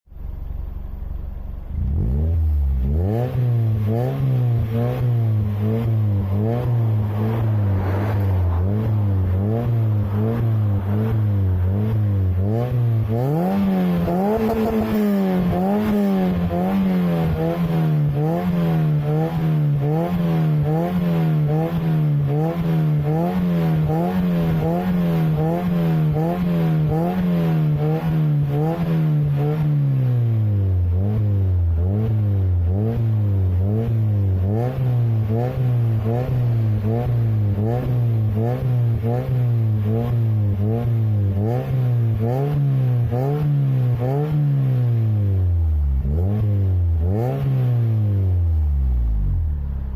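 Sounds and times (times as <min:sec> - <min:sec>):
car engine revving: 0:00.2 - 0:49.9.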